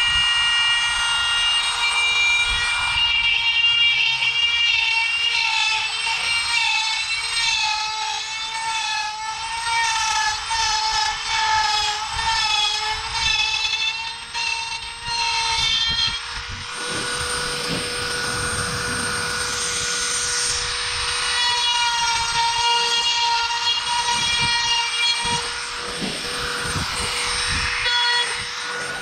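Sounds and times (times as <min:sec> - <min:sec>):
electric motor whine: 0:00.0 - 0:29.0
rough noisy grinding: 0:00.0 - 0:29.0.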